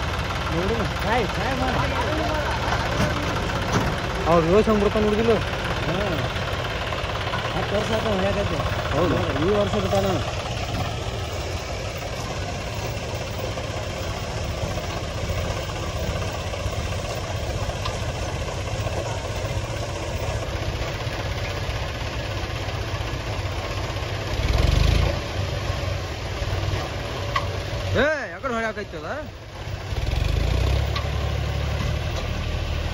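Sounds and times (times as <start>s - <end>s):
tractor engine idling: 0.0s - 32.9s.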